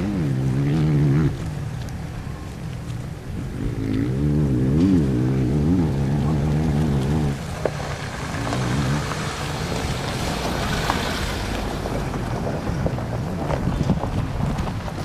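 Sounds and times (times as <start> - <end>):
motorcycle engines racing: 0.0 - 15.0.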